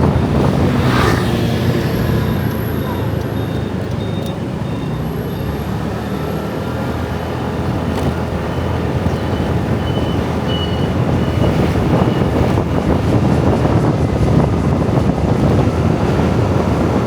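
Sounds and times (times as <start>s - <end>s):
motor scooter traffic passing: 0.0s - 17.0s.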